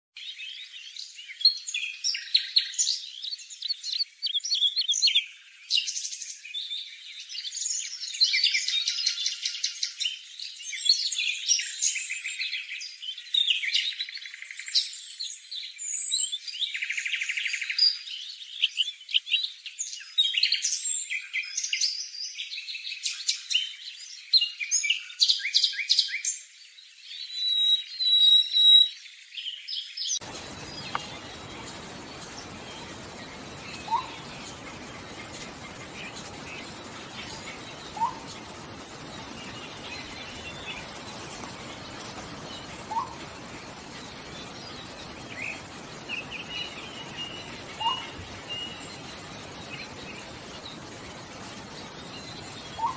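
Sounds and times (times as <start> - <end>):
birds chirping and trilling: 0.2 - 52.9.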